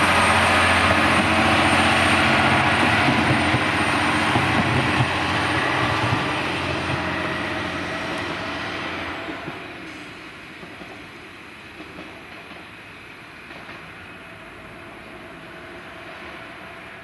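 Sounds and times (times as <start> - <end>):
diesel railcar pulling away: 0.0 - 17.0.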